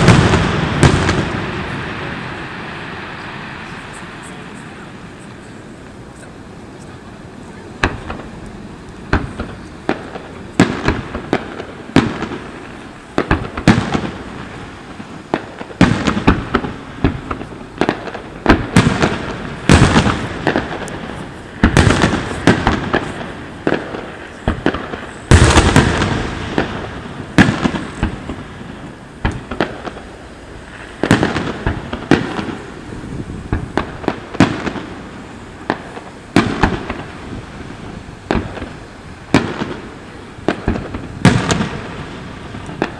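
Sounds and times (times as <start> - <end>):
firework shells bursting: 0.0 - 42.9.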